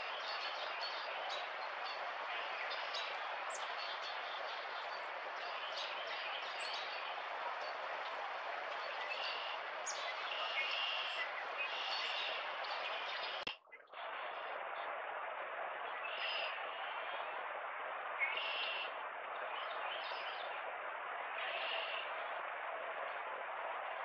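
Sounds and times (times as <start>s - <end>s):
outdoor ambient hiss: 0.0s - 24.0s.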